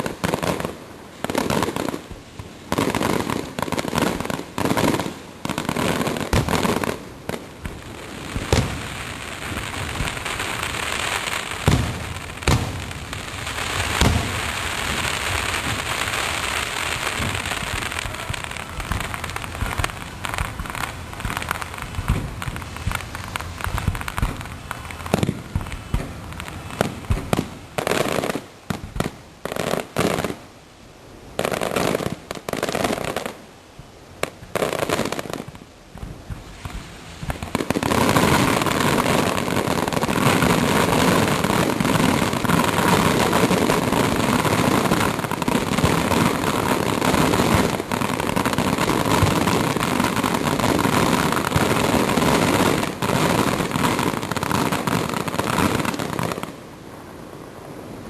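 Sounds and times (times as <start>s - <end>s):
crackling firework explosions: 0.0s - 58.0s.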